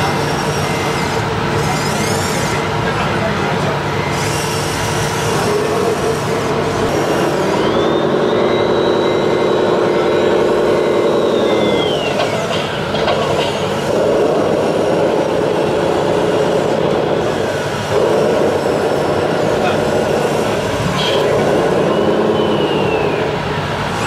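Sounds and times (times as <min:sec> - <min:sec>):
high motor whine: 0:00.0 - 0:24.0
simulated diesel engine: 0:00.0 - 0:24.0.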